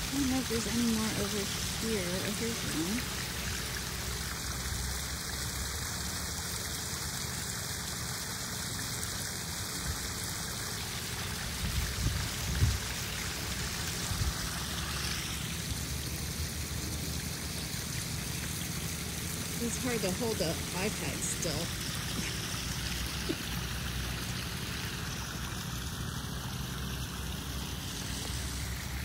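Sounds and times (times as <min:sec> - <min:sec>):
waterfall splashing over rocks: 0:00.0 - 0:29.0.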